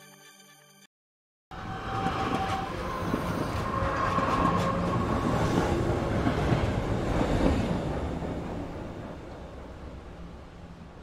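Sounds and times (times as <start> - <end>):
subway train running: 1.5 - 11.0.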